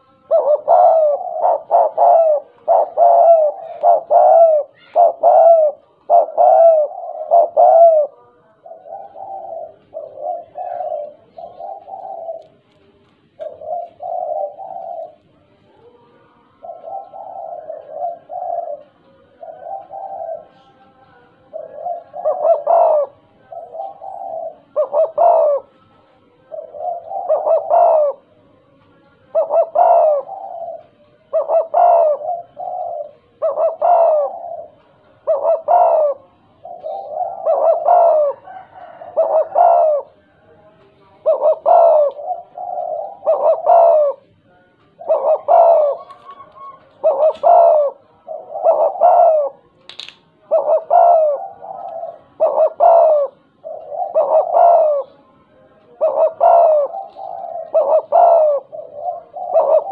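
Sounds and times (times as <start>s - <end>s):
dove cooing: 0.0s - 28.4s, 29.2s - 59.9s.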